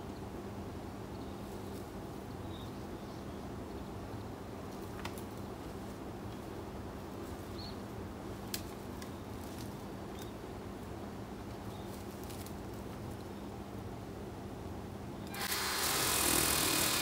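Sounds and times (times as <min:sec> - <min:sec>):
background hiss: 0:00.0 - 0:17.0
steady low hum: 0:00.0 - 0:17.0.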